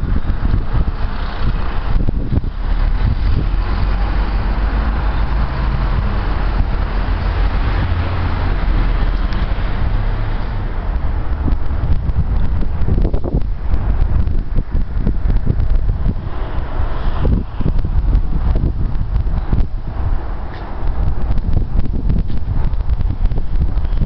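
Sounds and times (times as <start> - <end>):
truck diesel engine running: 0.0 - 23.2.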